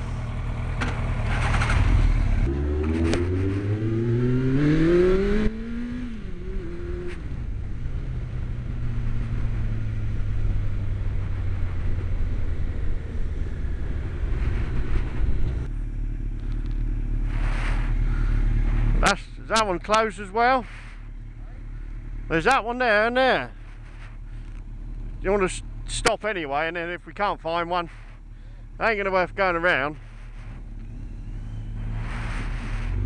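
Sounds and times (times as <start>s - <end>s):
motorcycle engine accelerating: 0.0s - 33.0s
road and wind rush: 0.0s - 33.0s.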